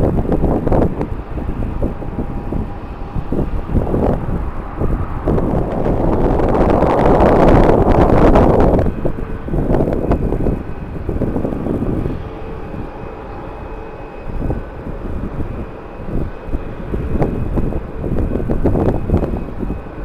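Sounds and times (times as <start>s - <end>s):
distant jet engines whining: 0.0s - 20.0s
wind buffeting microphone: 0.0s - 20.0s.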